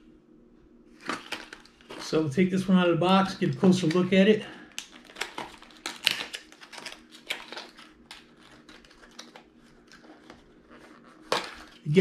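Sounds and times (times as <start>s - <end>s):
plastic packaging clicking and crackling: 1.0s - 2.2s, 3.5s - 11.9s.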